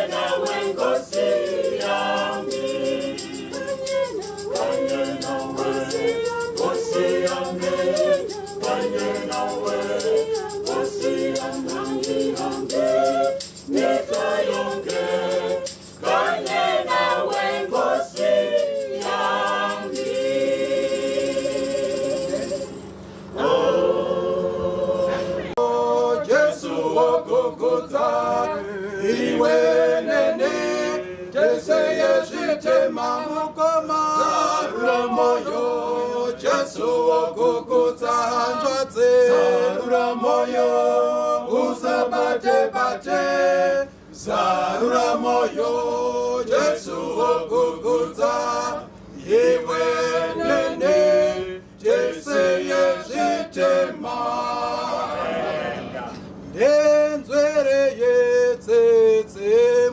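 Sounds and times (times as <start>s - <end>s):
men singing a hymn unaccompanied: 0.0s - 59.9s.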